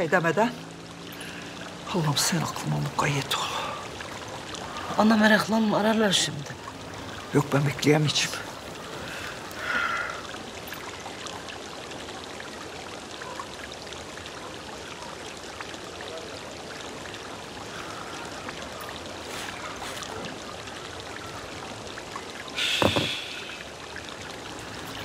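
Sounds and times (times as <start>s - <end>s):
running water trickling and splashing: 0.0s - 25.0s.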